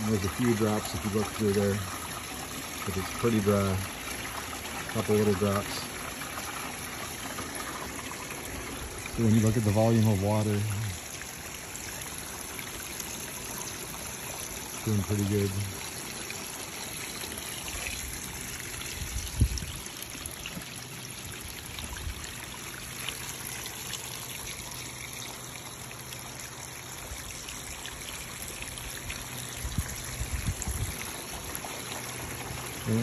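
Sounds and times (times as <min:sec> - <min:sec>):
hose water running over shingles: 0:00.0 - 0:33.0.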